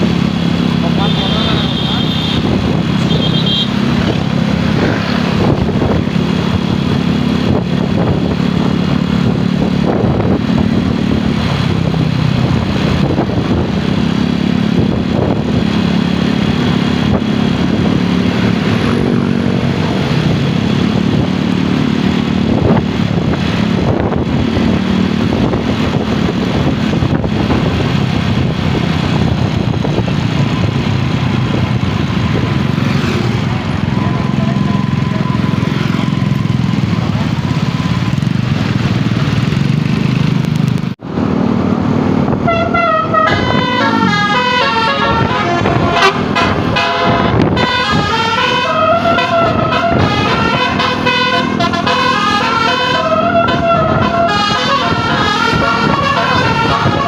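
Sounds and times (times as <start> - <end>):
traffic noise: 0.0 - 57.0
vehicle engines running: 0.0 - 57.0.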